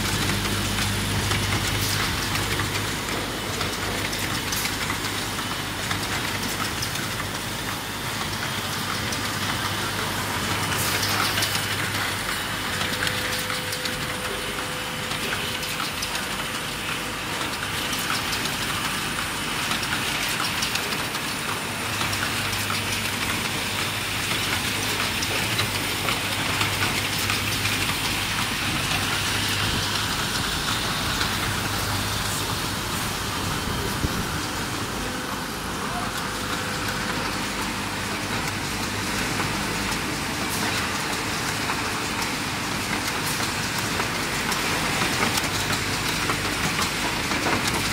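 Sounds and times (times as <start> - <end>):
low machine hum: 0.0 - 47.9
machine clattering with rapid clicks: 0.0 - 47.9.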